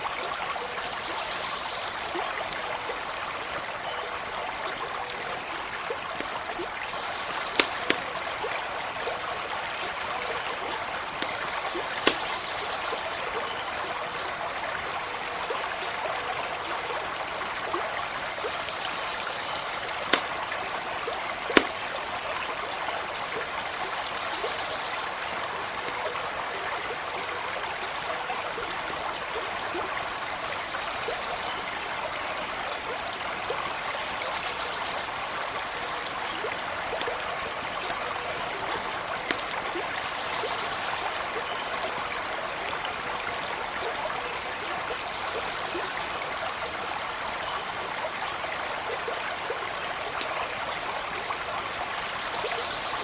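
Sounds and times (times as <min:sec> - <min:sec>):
campfire crackling: 0:00.0 - 0:33.9, 0:35.5 - 0:50.4
stream running: 0:00.0 - 0:53.0.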